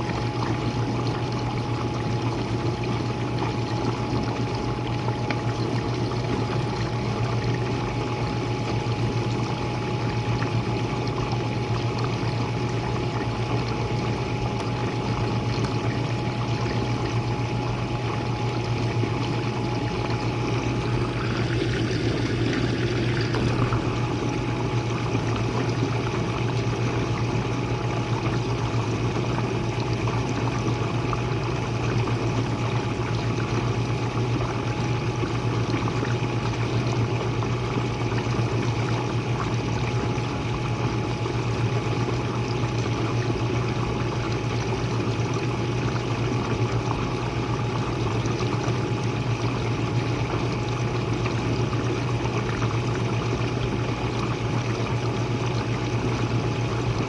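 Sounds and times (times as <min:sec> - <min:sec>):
dishwasher low hum: 0:00.0 - 0:57.0.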